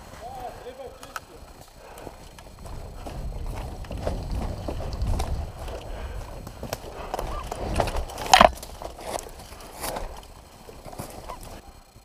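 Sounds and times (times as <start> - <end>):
gear rattling: 1.3 - 11.7.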